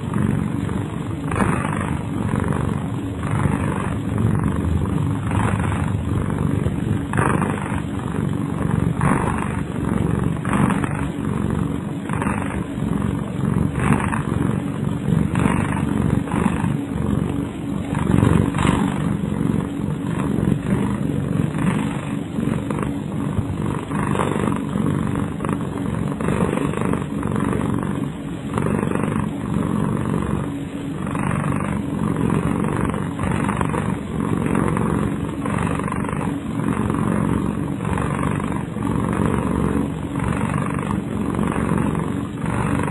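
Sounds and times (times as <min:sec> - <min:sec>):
cat snoring: 0:00.0 - 0:42.9.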